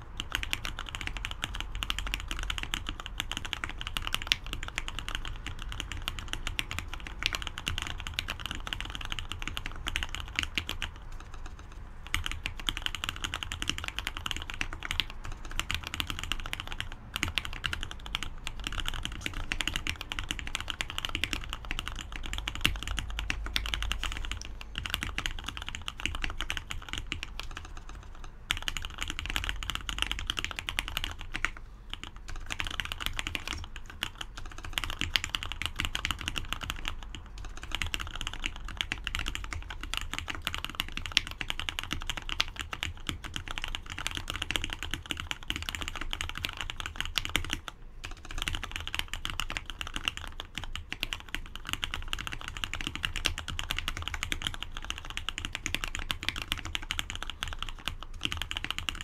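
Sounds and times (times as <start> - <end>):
fast typing on mechanical keyboard: 0.0 - 59.0.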